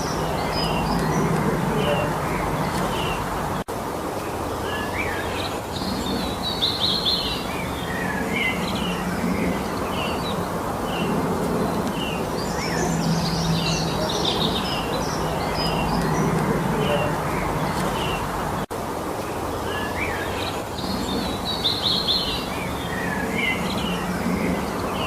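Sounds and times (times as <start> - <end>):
steady background rush: 0.0 - 4.0, 5.2 - 18.7, 19.9 - 25.0
songbirds chirping and trilling: 0.0 - 18.7, 19.3 - 25.0.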